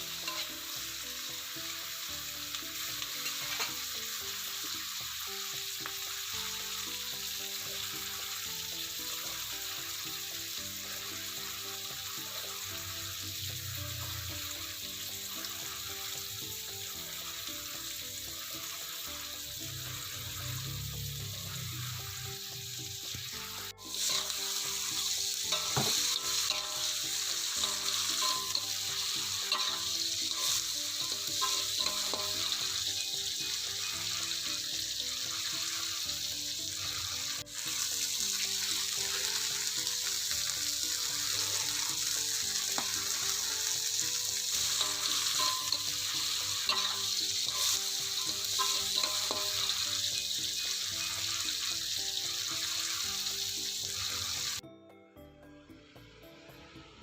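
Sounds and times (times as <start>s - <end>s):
stir-fry sizzling in a pan: 0.0s - 54.6s.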